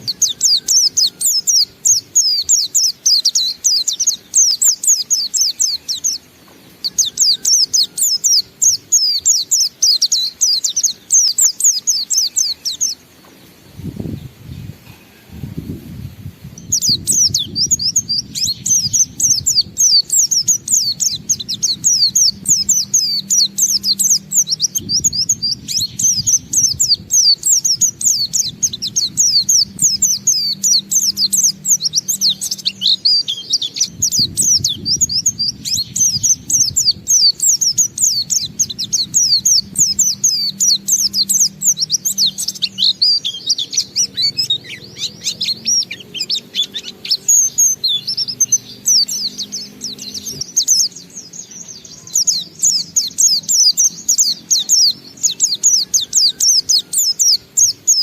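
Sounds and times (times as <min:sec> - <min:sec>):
bird singing rapid chirps: 0:00.0 - 0:14.7, 0:15.6 - 0:58.0
low steady hum: 0:00.0 - 0:58.0.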